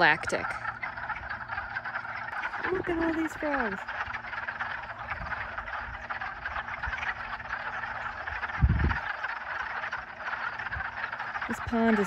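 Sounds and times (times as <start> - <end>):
frogs chorus: 0.0 - 12.0.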